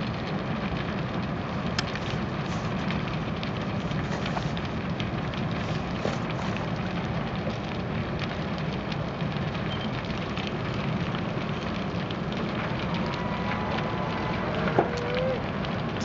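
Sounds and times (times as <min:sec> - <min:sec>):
fire crackling and popping: 0:00.0 - 0:16.0
fire rushing: 0:00.0 - 0:16.0.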